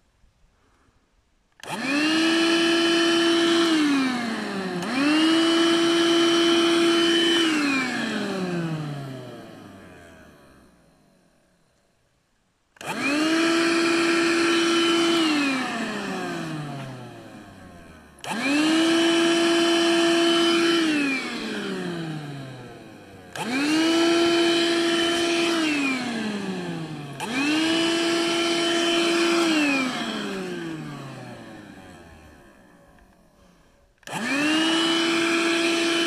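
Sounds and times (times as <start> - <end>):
vacuum cleaner motor whine: 1.6 - 12.0, 12.8 - 36.0.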